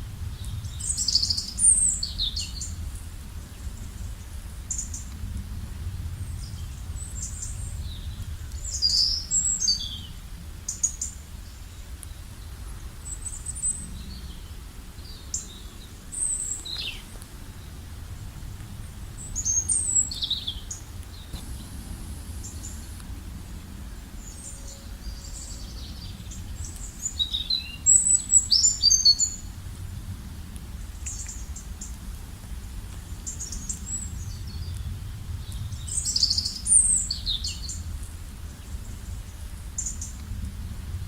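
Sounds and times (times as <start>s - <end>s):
steady low rumble: 0.0s - 28.6s, 29.2s - 41.0s.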